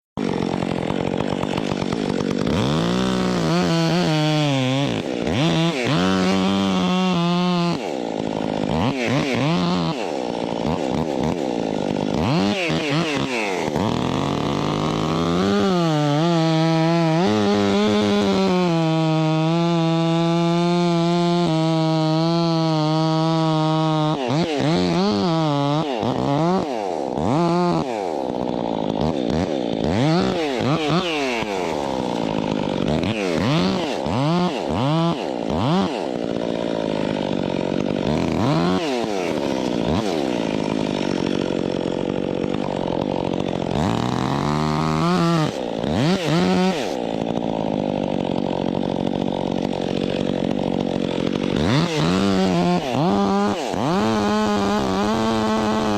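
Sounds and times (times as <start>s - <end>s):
chainsaw revving: 0.2s - 55.9s.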